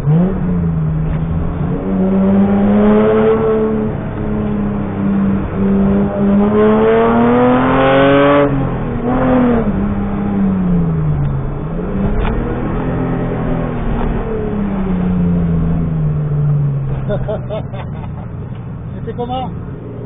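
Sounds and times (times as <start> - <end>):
car engine revving inside cabin: 0.0 - 20.0.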